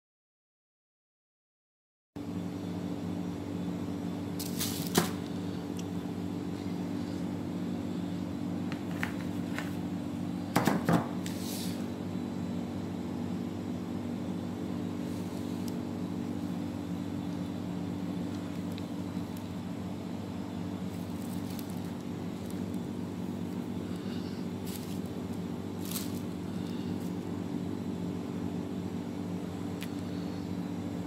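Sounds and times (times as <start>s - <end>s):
low machine hum: 2.2s - 31.0s.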